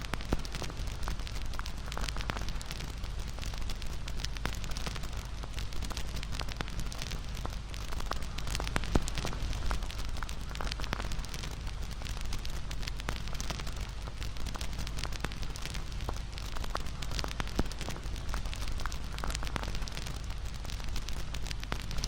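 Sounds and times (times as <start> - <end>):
low rumble of flames: 0.0 - 22.0
campfire crackling: 0.1 - 22.0.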